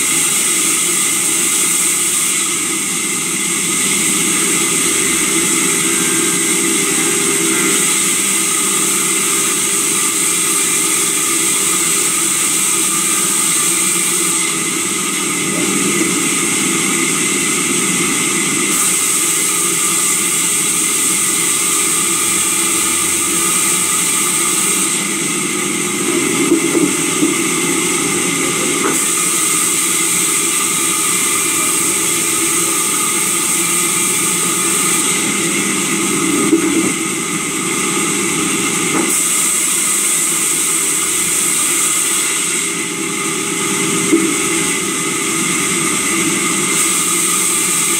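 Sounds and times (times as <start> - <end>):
sawmill machinery hum and whine: 0.0 - 47.9.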